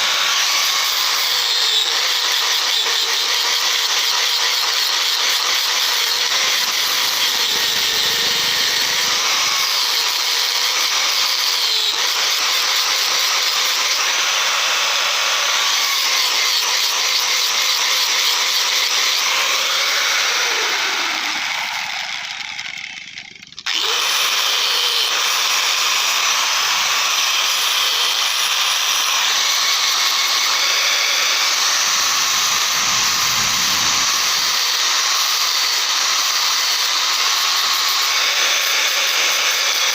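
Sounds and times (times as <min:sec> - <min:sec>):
power tool running with high hiss: 0:00.0 - 0:39.9.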